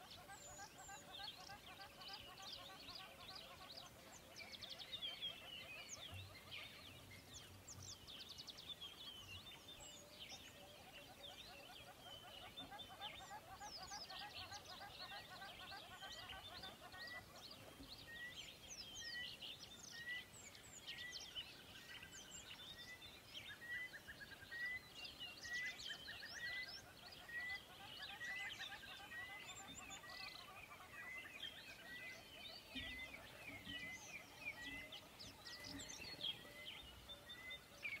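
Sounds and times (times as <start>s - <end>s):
birds chirping and singing: 0.0s - 38.0s.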